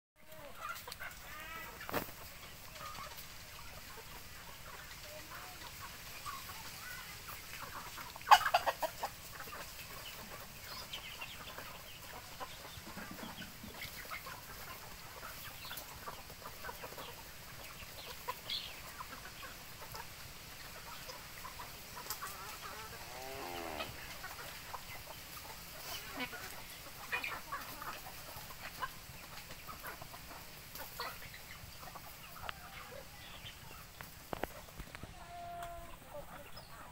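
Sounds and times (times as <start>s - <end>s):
chickens clucking: 0.2s - 36.9s.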